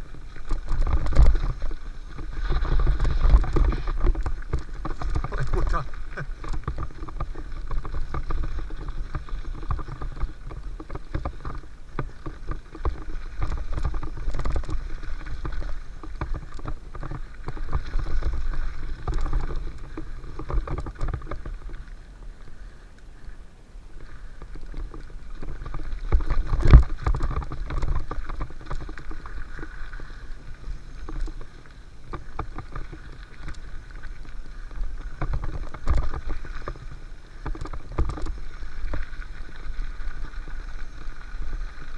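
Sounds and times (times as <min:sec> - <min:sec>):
bike tyre rumble on dirt: 0:00.0 - 0:41.9.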